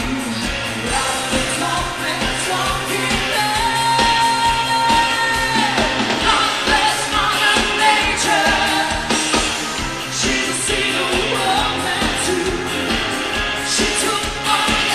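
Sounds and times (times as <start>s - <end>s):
person singing: 0.0s - 9.4s, 10.1s - 14.9s
pop dance music: 0.0s - 14.9s
steady drum beat: 0.0s - 14.9s.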